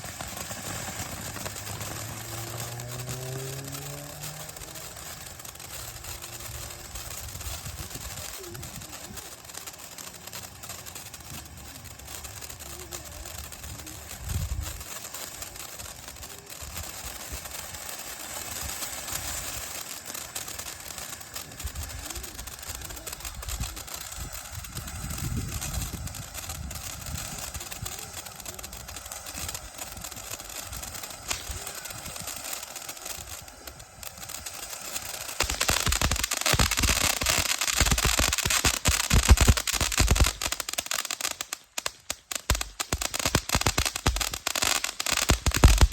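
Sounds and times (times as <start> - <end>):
firework fountain hissing and crackling: 0.0 - 45.9.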